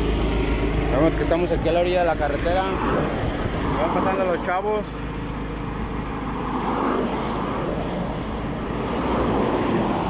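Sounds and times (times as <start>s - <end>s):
highway traffic passing: 0.0s - 10.0s.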